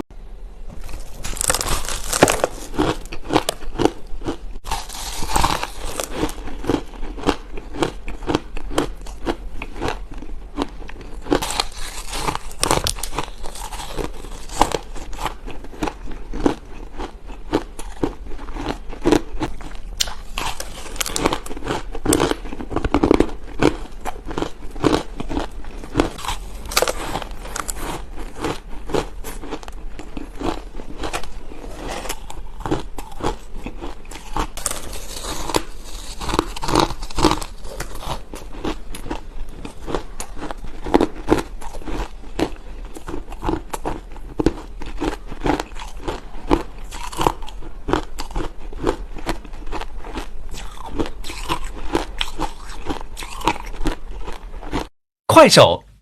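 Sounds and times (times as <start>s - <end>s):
ice being chewed: 0.8s - 54.9s.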